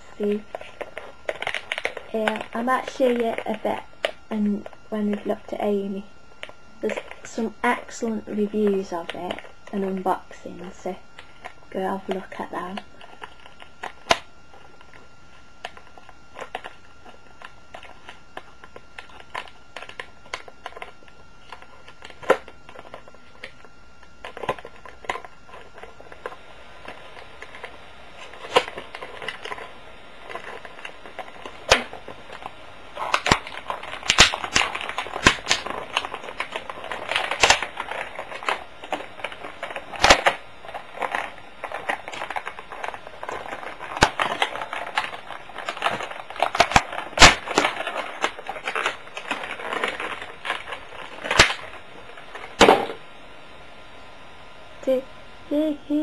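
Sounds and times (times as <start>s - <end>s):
plastic packaging crinkling: 0.0s - 53.4s.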